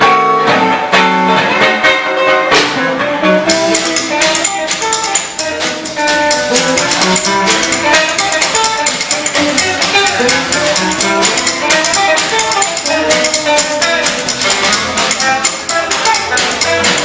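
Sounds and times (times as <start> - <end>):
drum kit: 0.0 - 17.0
electric guitar: 0.0 - 17.0
strummed acoustic guitar: 0.0 - 17.0
upright bass: 0.0 - 17.0.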